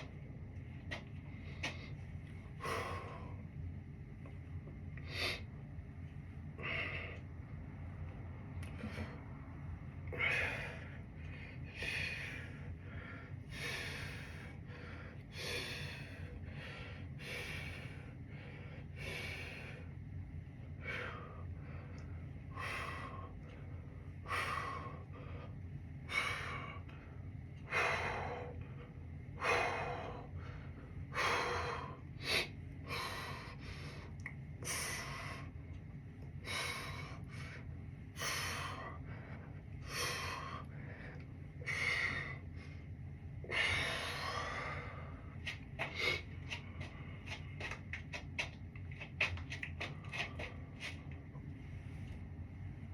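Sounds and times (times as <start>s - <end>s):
man breathing hard: 0.9s - 3.7s, 5.0s - 5.8s, 6.4s - 51.3s.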